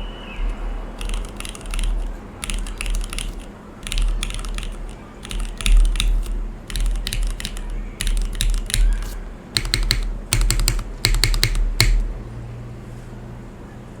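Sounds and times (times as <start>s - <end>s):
mechanical keyboard typing: 0.4s - 12.2s.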